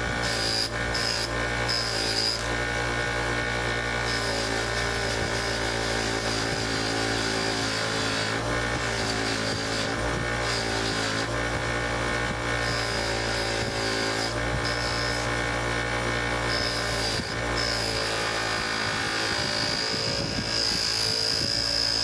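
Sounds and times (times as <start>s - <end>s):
bench buffer motor hum: 0.0s - 22.0s.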